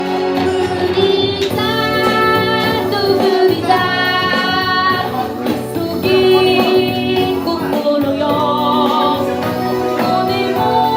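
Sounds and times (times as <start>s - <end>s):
instrumental backing: 0.0s - 10.9s
person singing: 0.0s - 10.9s.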